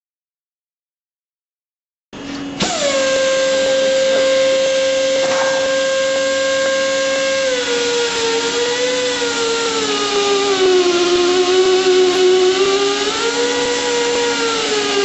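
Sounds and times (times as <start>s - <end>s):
air motor whine: 2.2s - 15.0s.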